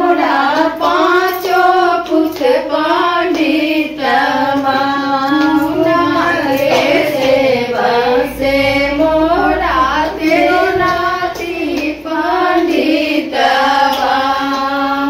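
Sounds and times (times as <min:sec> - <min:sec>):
women singing devotional song: 0:00.0 - 0:15.0.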